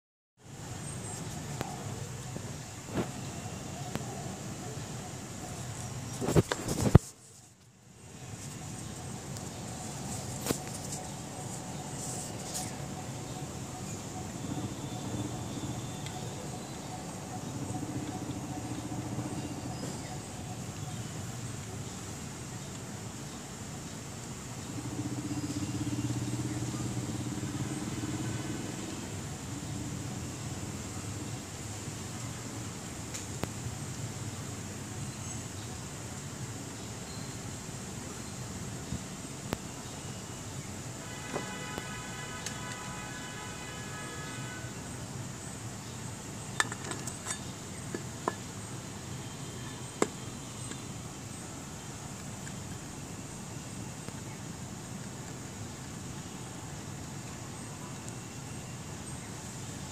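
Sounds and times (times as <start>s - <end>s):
steady background noise: 0.4s - 59.9s.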